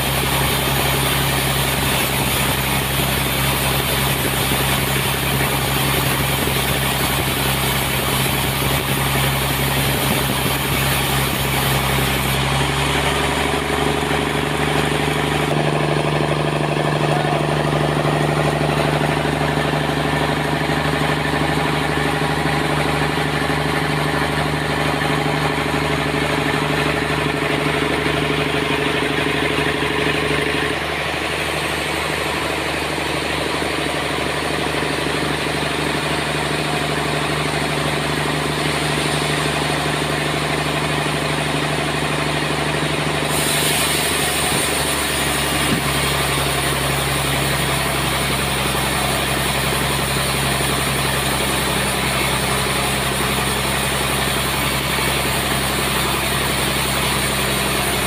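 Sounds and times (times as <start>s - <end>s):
saw blade hissing through log: 0.0s - 42.0s, 43.0s - 58.0s
sawmill engine hum: 0.0s - 58.0s.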